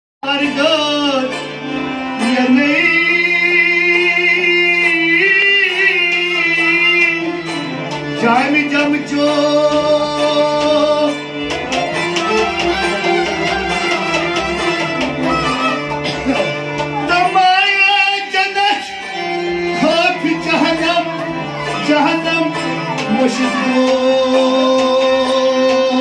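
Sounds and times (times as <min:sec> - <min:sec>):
man singing: 0:00.2 - 0:11.3, 0:12.0 - 0:26.0
bowed and plucked strings: 0:00.2 - 0:26.0.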